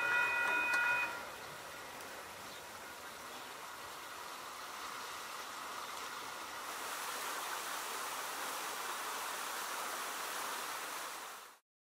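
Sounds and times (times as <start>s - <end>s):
fountains splashing into pools: 1.0s - 11.6s.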